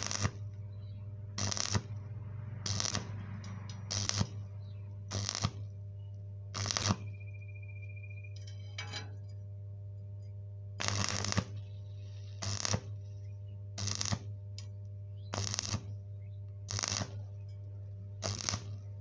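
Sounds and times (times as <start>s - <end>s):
welding arc crackle: 0.0s - 7.2s, 10.8s - 19.0s
steady low hum: 0.0s - 19.0s.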